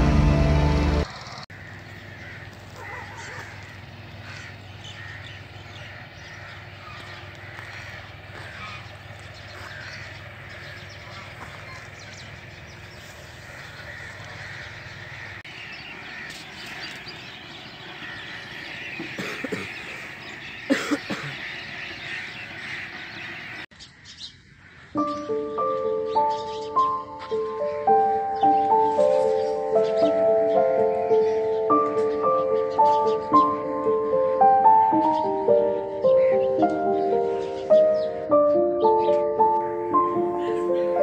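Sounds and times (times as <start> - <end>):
birds calling: 0.0 - 41.0.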